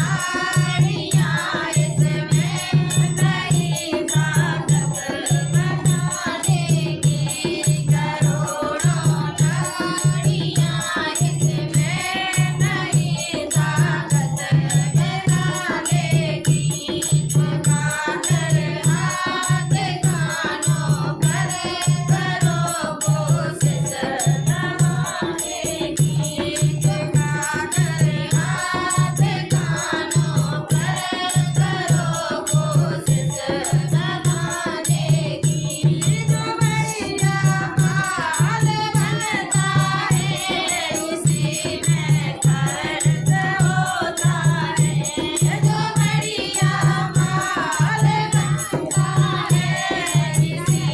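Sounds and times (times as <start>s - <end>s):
rattling hand percussion: 0.0s - 50.9s
women singing devotional song: 0.0s - 50.9s.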